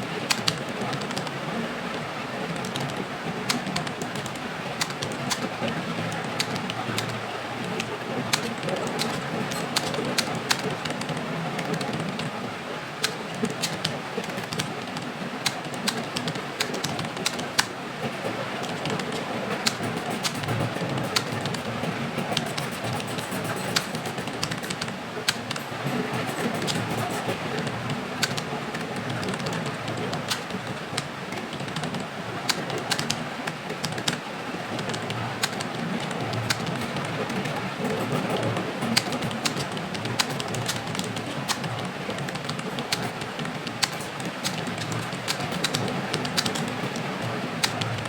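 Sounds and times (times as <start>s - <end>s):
steady background noise: 0.0s - 48.0s
computer keyboard typing: 0.1s - 1.4s, 2.5s - 12.3s, 13.0s - 48.0s.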